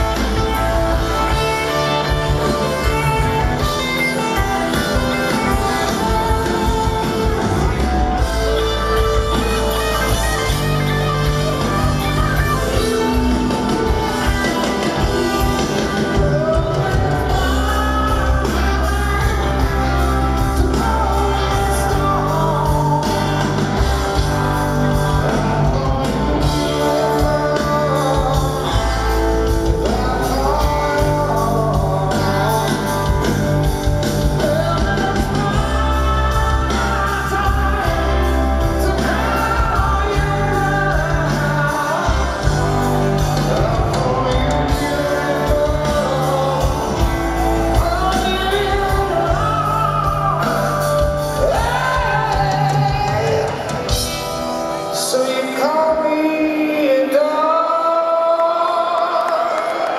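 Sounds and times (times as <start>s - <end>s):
bass guitar: 0.0s - 55.7s
drums: 0.0s - 59.9s
electric guitars: 0.0s - 59.9s
person singing: 0.0s - 59.9s.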